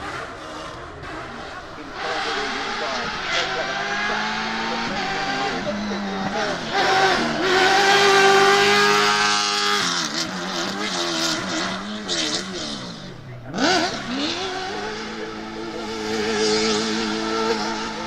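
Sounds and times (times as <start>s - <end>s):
truck engine revving: 1.1s - 18.0s.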